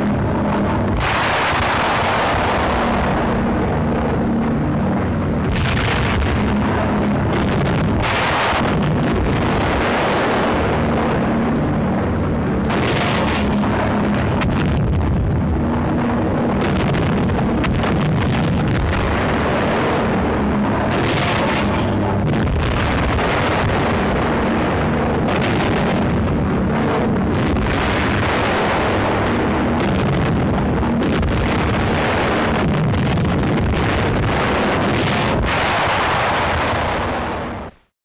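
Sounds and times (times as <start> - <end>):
propeller aircraft engine: 0.0 - 37.9.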